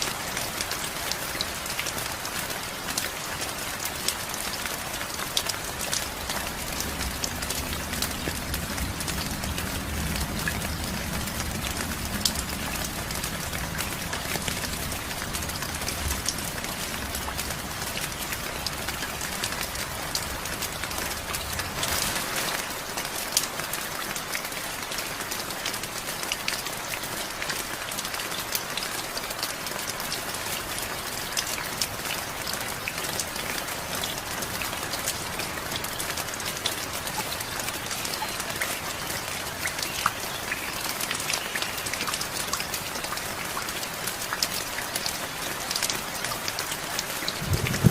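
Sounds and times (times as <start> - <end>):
raindrops striking close by: 0.0 - 47.9
steady rain: 0.0 - 47.9.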